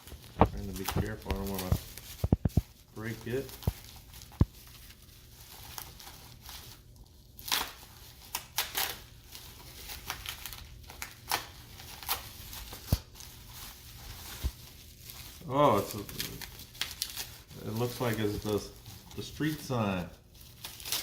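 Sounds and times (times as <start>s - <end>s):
packing material crinkling and tearing: 0.0s - 21.0s.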